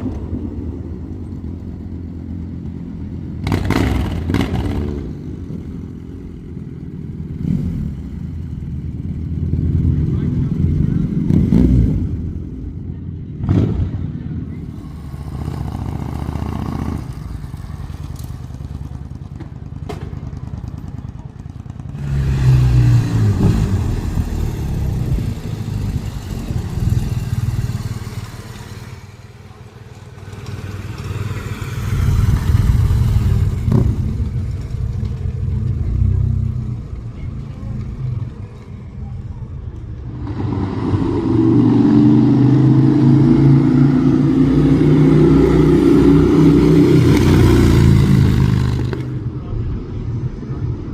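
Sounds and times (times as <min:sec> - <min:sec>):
motorcycle engines running: 0:00.0 - 0:40.5, 0:42.2 - 0:50.9.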